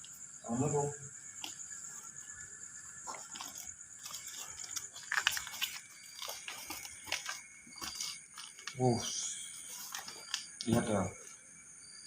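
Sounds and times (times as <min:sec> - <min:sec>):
insects trilling: 0:00.0 - 0:12.0
crunches and rustles: 0:01.2 - 0:11.3.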